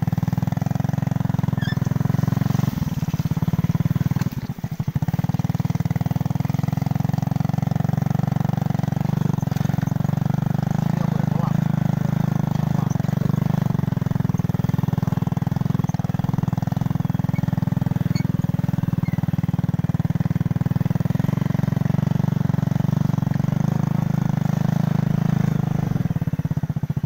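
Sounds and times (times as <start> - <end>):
small engine droning: 0.0 - 27.0.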